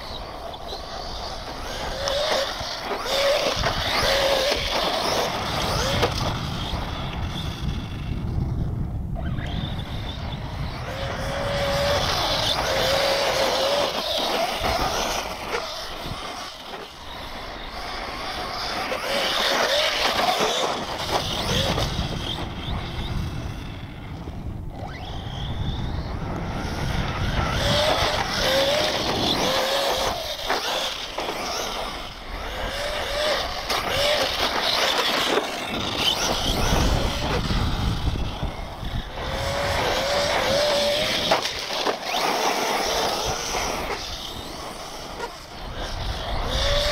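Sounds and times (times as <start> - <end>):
tyres rushing on dirt: 0.0 - 8.2, 9.4 - 46.9
electric motor whining: 0.0 - 46.9.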